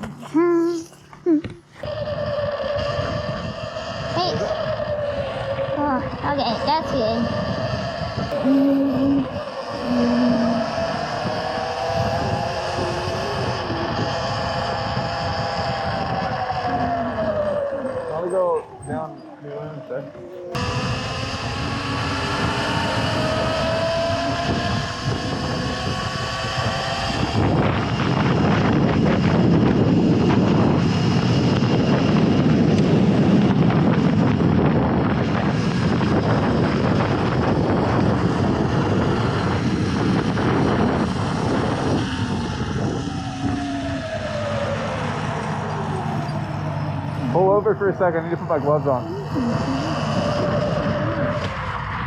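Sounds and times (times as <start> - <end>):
electric motor whine: 0.0 - 52.0
wind on microphone: 0.0 - 52.0.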